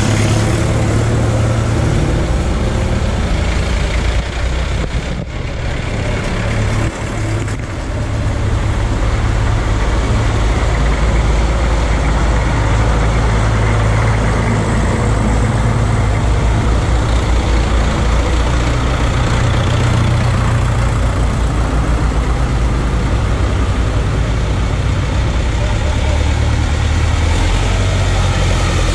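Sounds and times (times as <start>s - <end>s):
tractor engines chugging: 0.0s - 28.9s.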